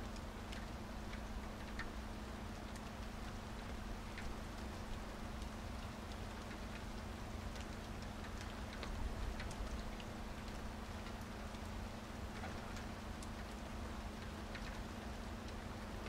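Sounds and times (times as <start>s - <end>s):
rain falling: 0.0s - 16.0s
raindrops ticking on a surface: 0.0s - 16.0s.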